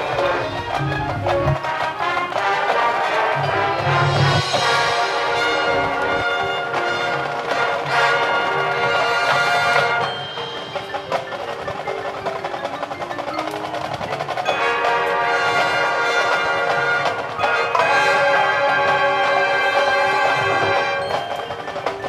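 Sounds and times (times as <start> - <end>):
fast dense percussion: 0.0 - 22.0
marching band playing: 0.0 - 22.0.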